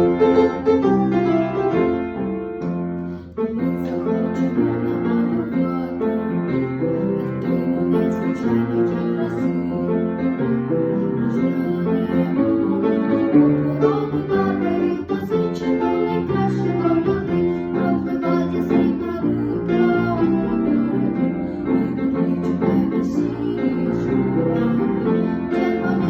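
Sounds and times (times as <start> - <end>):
piano playing: 0.0 - 26.0.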